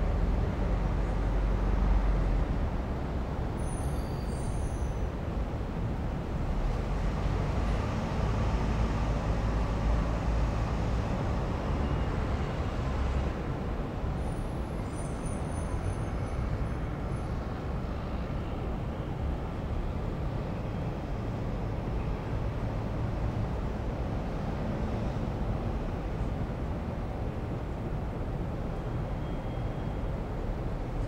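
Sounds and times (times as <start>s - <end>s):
city traffic road noise: 0.0s - 31.0s.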